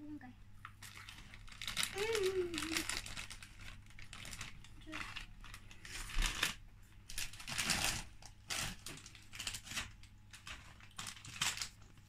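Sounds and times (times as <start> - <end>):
foil crisp packet crinkling: 0.6 - 12.0.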